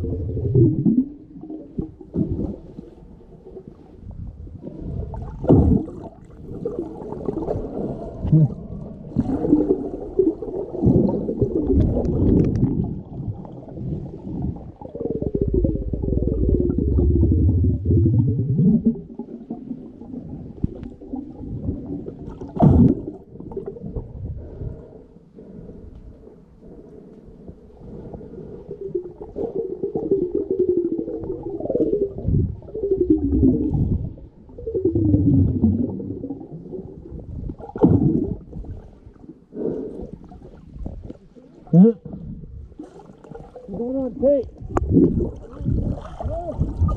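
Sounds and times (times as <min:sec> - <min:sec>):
underwater water sloshing: 0:00.0 - 0:46.9.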